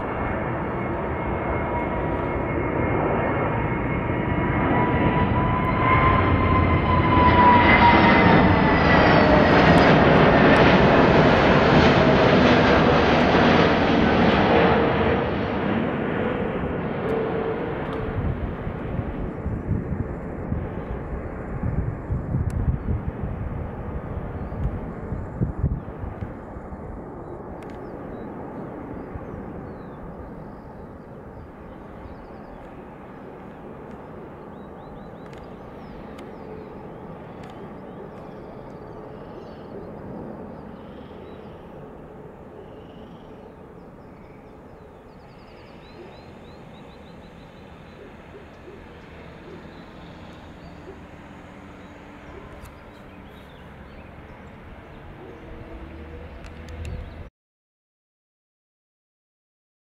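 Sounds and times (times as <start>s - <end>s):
distant jet engines rushing: 0.0s - 57.3s.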